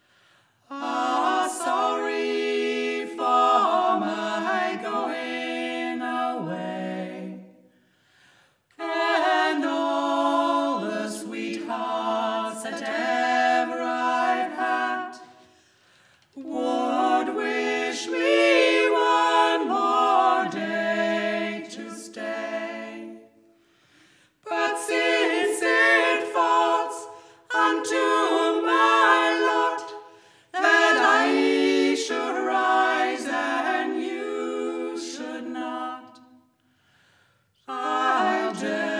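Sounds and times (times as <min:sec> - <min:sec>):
quartet singing a cappella: 0:00.7 - 0:07.8, 0:08.8 - 0:23.5, 0:24.4 - 0:36.5, 0:37.6 - 0:38.9.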